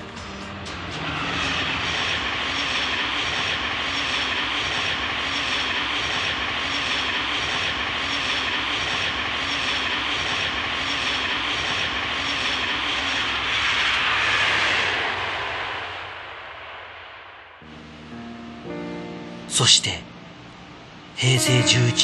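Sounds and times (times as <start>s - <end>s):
train rushing across bridge: 0.0s - 22.0s.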